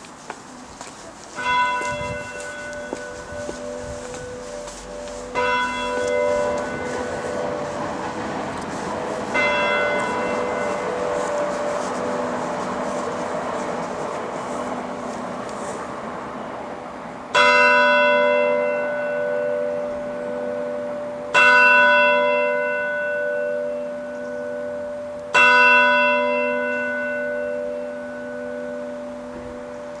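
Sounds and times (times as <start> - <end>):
church bell tolling: 1.3 - 15.1, 17.3 - 30.0.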